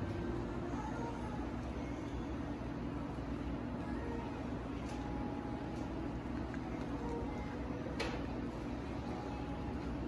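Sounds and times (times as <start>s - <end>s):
low hum of room noise: 0.0s - 10.0s.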